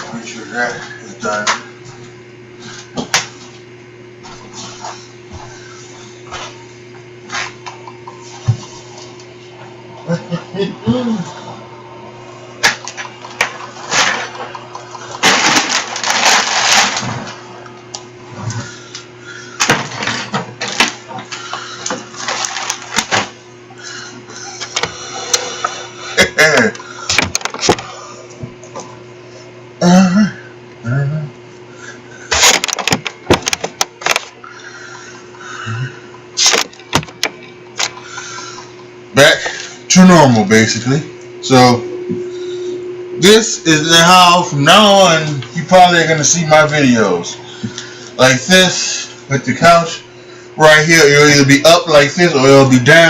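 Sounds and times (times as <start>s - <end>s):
low hum: 1.6s - 49.3s.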